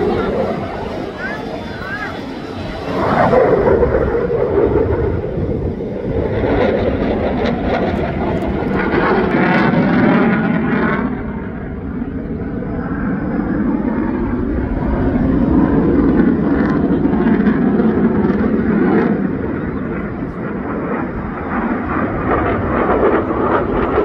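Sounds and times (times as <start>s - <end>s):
aircraft engine roar: 0.0s - 24.0s.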